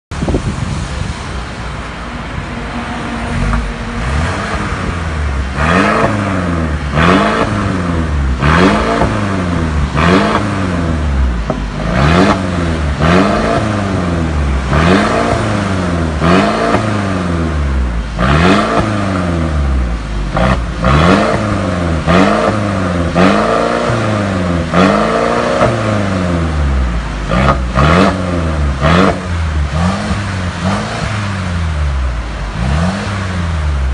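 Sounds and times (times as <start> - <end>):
car engine idling: 0.3 - 33.9
car engine revving: 0.5 - 33.9.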